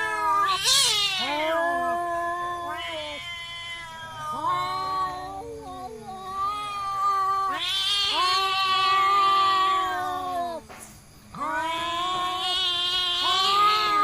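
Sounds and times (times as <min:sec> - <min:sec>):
cats yowling: 0:00.0 - 0:10.7, 0:11.3 - 0:14.0.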